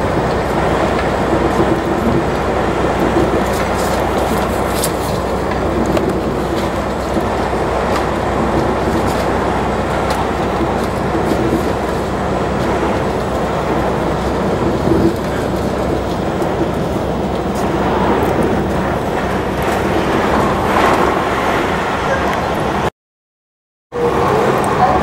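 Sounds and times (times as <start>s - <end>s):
road and engine noise inside vehicle: 0.0s - 22.9s, 24.0s - 25.0s.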